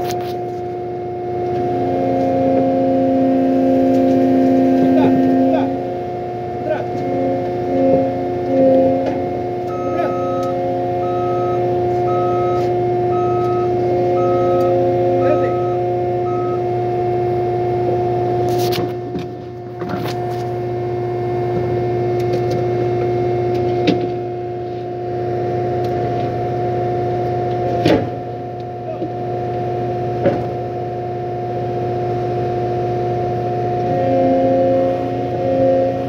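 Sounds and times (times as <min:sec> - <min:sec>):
loader engine hum with whine: 0:00.0 - 0:36.0.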